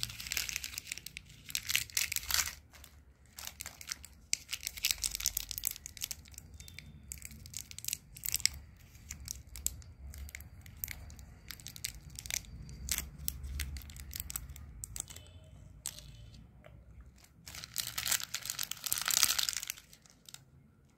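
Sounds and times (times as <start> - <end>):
plastic wrapper crackling: 0.0 - 16.4, 17.0 - 20.9.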